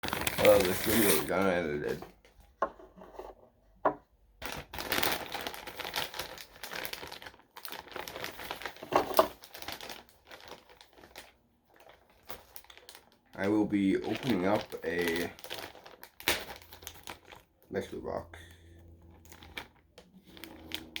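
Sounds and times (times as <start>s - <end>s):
packaging crinkling and rustling: 0.0s - 2.0s, 4.4s - 18.1s, 18.8s - 21.0s.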